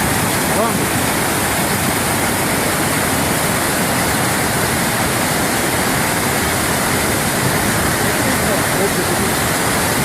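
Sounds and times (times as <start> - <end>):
waterfall crashing: 0.0 - 10.0.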